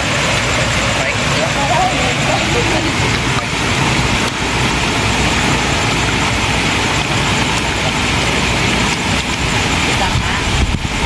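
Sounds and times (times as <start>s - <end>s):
fountain water splashing into basin: 0.0s - 11.0s.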